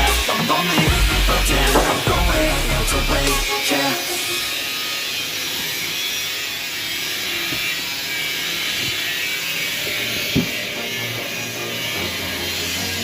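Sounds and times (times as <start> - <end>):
tool hissing: 0.0 - 13.0.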